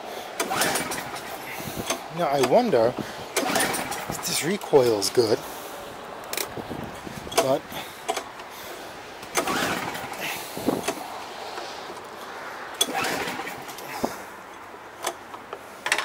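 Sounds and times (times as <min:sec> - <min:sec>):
recoil starter rope pulls: 0:00.4 - 0:05.7, 0:06.3 - 0:12.2, 0:12.8 - 0:14.3.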